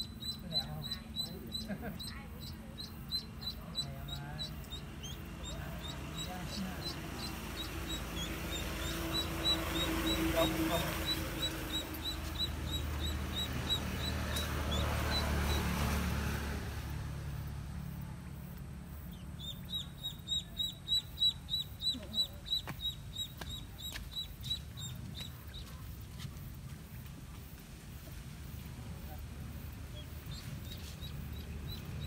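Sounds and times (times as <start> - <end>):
duckling peeping: 0.0 - 16.5, 18.9 - 26.0, 29.8 - 32.0.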